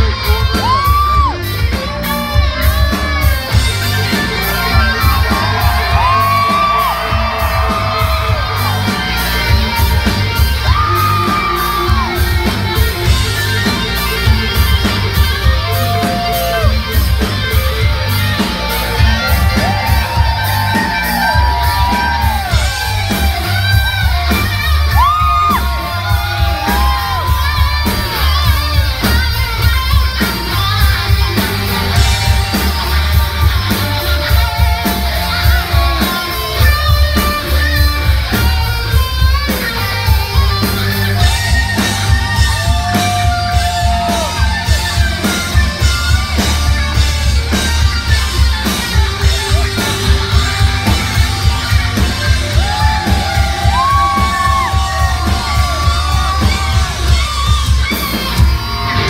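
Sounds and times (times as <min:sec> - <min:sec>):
bass guitar: 0:00.0 - 0:59.0
drums playing a steady beat: 0:00.0 - 0:59.0
electric guitar: 0:00.0 - 0:59.0.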